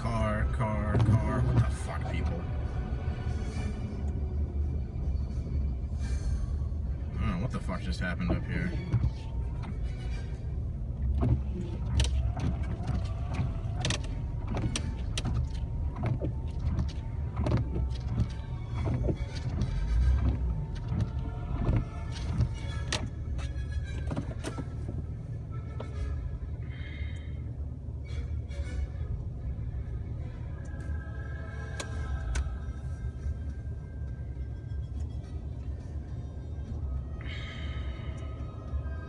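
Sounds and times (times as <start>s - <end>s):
engine and road rumble: 0.0s - 39.0s.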